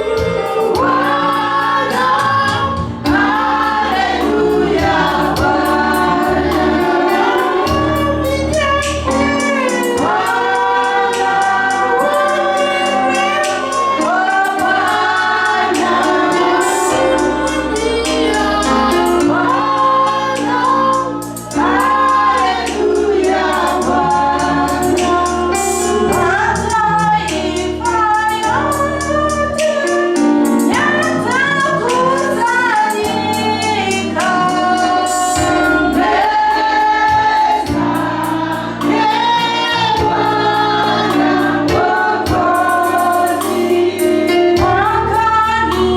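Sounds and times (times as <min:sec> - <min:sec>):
bass guitar: 0:00.0 - 0:45.9
gospel choir singing: 0:00.0 - 0:45.9
keyboard: 0:00.0 - 0:45.9.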